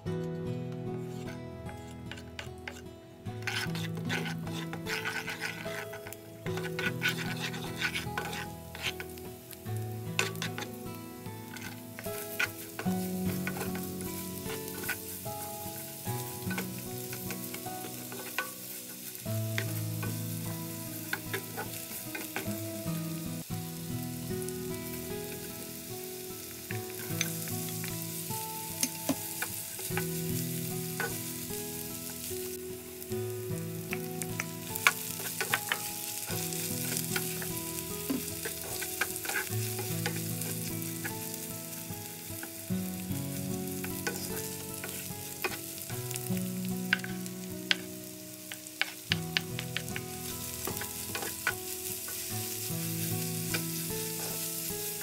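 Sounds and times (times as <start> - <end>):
wooden spatula scraping a pan: 1.0 - 2.8, 3.4 - 9.2, 10.2 - 10.8, 11.4 - 22.7, 26.4 - 32.5, 33.8 - 48.0, 48.8 - 55.0
carrots sizzling in oil: 1.0 - 55.0.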